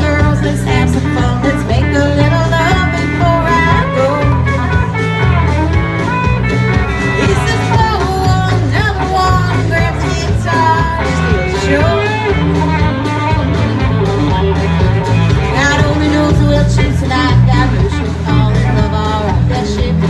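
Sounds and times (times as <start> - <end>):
blues-rock band music: 0.0 - 20.0
guitar bending melody: 0.0 - 20.0.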